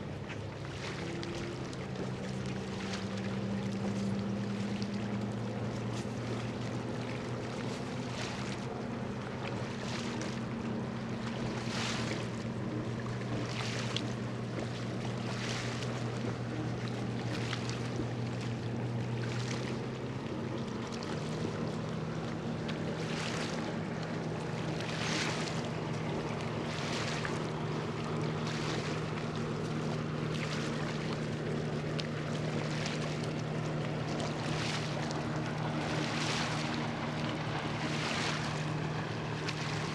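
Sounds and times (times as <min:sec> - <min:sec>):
ship diesel engine droning: 0:00.0 - 0:39.9.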